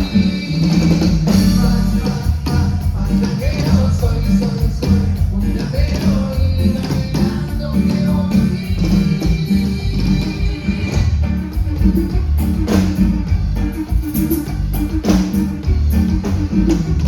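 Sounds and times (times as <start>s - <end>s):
live band playing cumbia: 0.0s - 17.0s.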